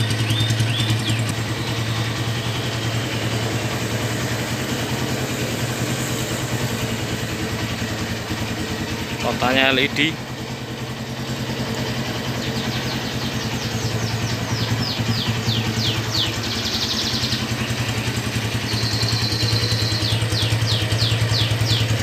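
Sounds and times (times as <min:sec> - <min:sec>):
high falling chirps: 0:00.0 - 0:08.1, 0:11.2 - 0:22.0
motorcycle engine idling: 0:00.0 - 0:22.0.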